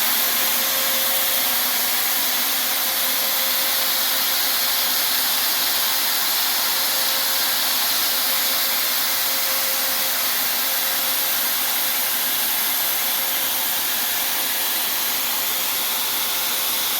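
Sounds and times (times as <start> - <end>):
spray hiss: 0.0 - 16.9
sprayer blower rush: 0.0 - 16.9.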